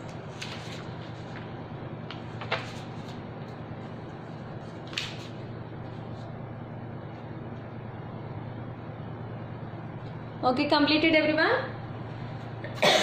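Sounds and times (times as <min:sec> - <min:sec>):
room noise with low hum: 0:00.0 - 0:13.0.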